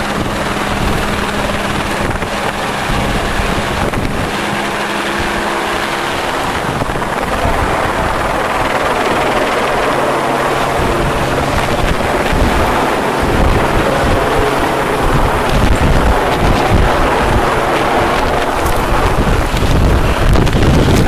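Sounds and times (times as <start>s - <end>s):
helicopter running close by: 0.0s - 21.0s.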